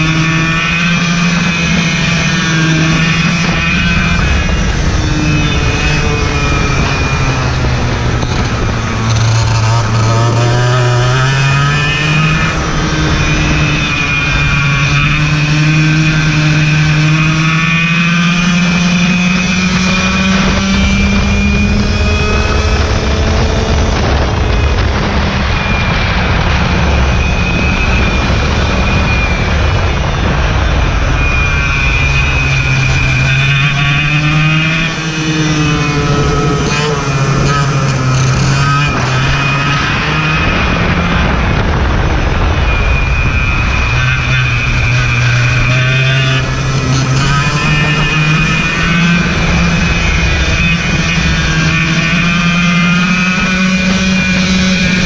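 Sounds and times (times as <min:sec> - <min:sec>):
kart engine accelerating: 0:00.0 - 0:55.0.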